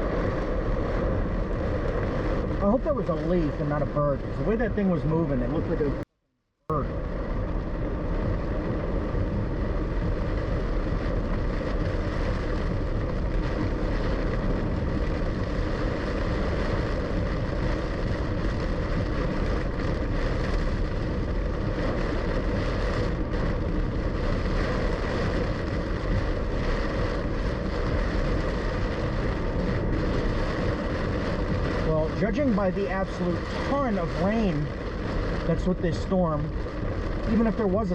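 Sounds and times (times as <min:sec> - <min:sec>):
car engine running: 0:00.0 - 0:06.0, 0:06.7 - 0:37.9
rain on car body: 0:00.0 - 0:06.0, 0:06.7 - 0:37.9
tyres on wet road: 0:00.0 - 0:06.0, 0:06.7 - 0:37.9.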